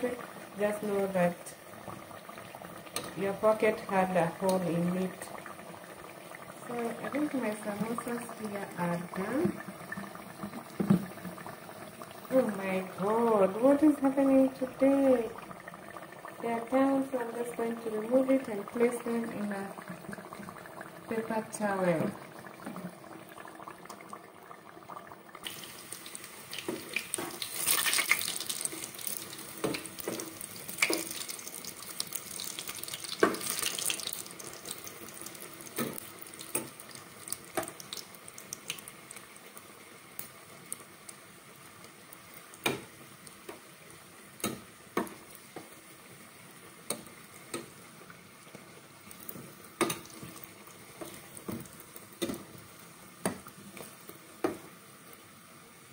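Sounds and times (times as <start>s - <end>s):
oil sizzling and bubbling: 0.0s - 55.9s.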